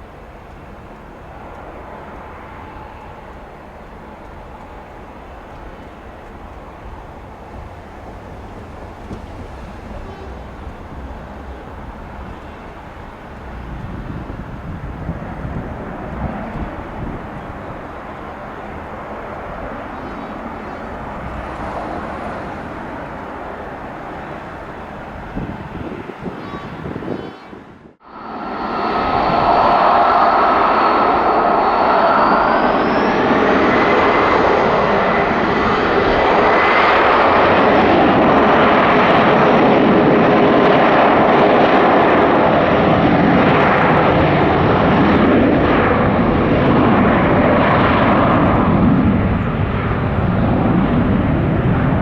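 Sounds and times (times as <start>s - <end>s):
jet engines spooling up: 0.0s - 26.1s, 28.0s - 52.0s.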